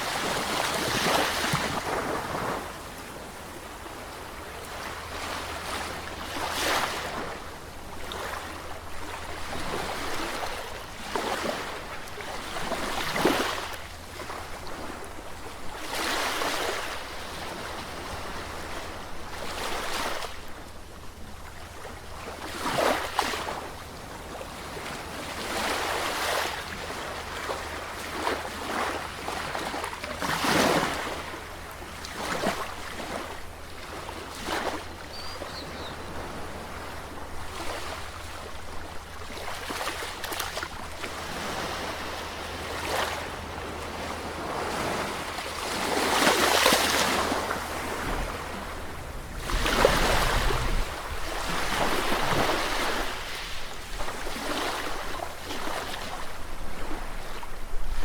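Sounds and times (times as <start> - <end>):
ocean waves breaking: 0.0 - 15.0, 24.6 - 57.4.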